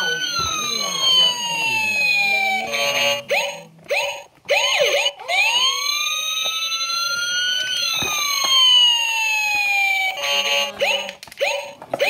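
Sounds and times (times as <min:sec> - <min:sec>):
siren-like gliding tones: 0:00.0 - 0:12.0.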